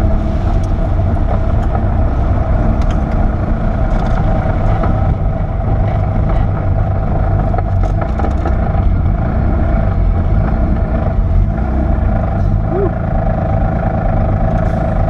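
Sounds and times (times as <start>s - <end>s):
car engine running heard from cabin: 0.0s - 15.0s.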